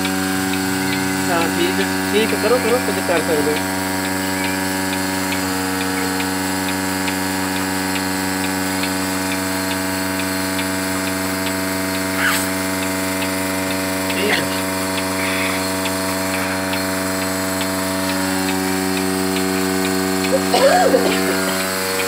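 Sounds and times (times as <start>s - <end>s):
pulsator ticking: 0.0s - 22.0s
vacuum pump humming: 0.0s - 22.0s.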